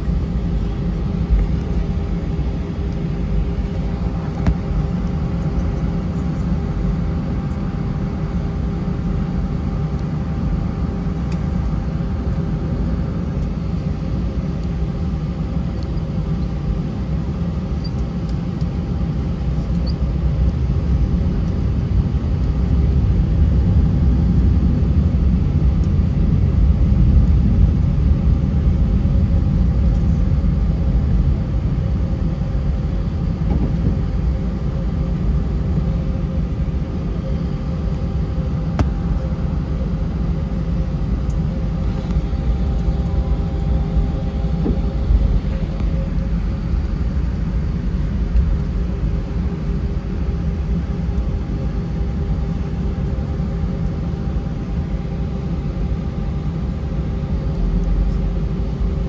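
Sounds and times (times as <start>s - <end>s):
airliner cabin rumble: 0.0s - 59.0s
faint engine hum: 0.0s - 59.0s.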